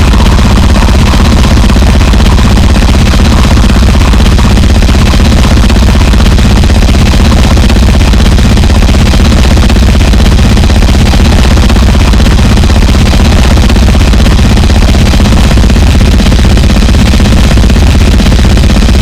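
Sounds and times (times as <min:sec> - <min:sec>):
distorted noise music: 0:00.0 - 0:19.0.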